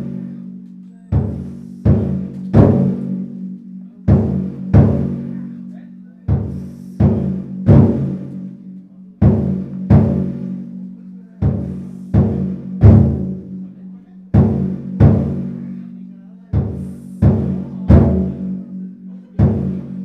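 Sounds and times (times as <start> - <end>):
taiko drum strikes: 0.0 - 20.0.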